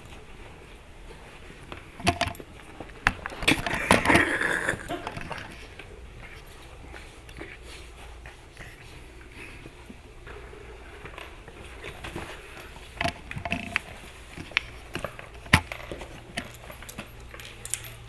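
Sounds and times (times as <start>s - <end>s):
puppies clattering and scuffling: 0.0s - 18.0s.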